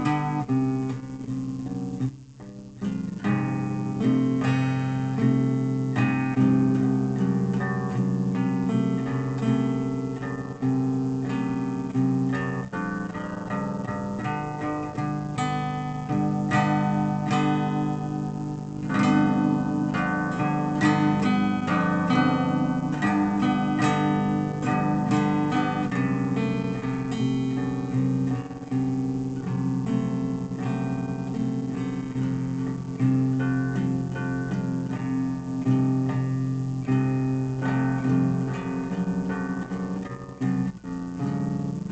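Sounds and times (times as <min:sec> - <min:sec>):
acoustic guitar music: 0:00.0 - 0:41.9.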